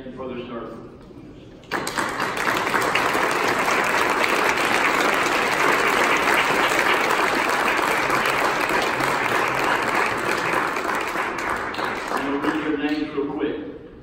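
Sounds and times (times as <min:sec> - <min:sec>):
crowd applauding: 0:01.6 - 0:13.1.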